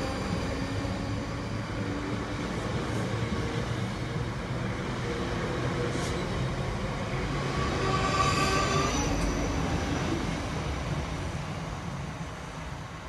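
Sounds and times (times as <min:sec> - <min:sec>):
high train whine: 0:00.0 - 0:13.0
train wheels rumbling on rails: 0:00.0 - 0:13.0.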